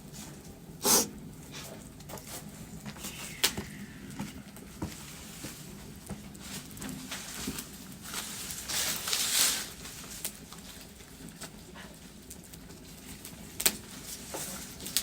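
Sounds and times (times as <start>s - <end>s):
wood fire crackling and popping: 1.4s - 15.0s.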